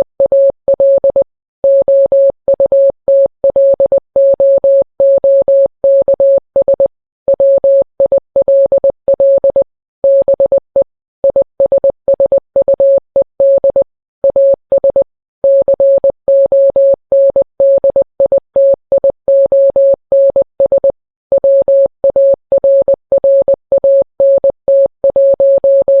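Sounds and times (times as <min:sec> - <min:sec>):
morse code beeps: 0:00.0 - 0:26.0.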